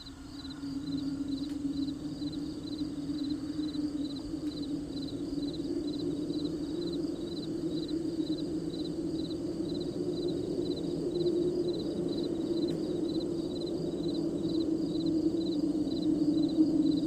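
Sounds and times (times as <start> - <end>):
crickets chirping: 0.0 - 17.0
low drone: 0.0 - 17.0.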